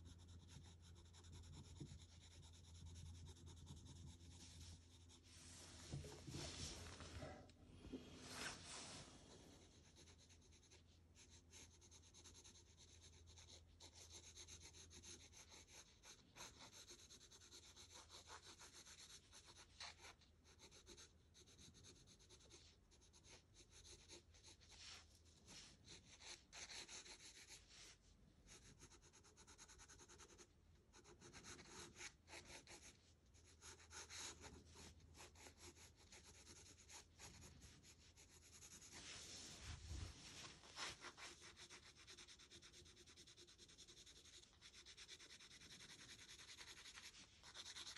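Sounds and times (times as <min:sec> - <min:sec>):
pencil scratching on paper: 0:00.0 - 0:07.4, 0:08.4 - 0:47.9.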